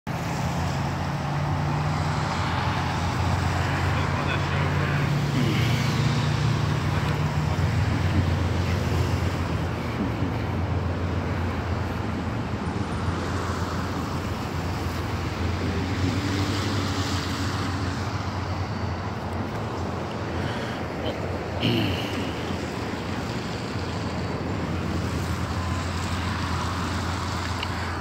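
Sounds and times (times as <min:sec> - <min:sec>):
road and traffic noise: 0:00.0 - 0:28.0
motor vehicle rumble: 0:00.1 - 0:28.0.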